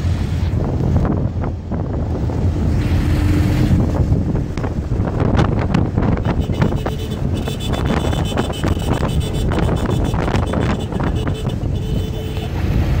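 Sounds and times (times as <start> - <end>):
car engine: 0.0 - 13.0
road noise: 0.0 - 13.0
wind buffeting microphone: 0.0 - 13.0.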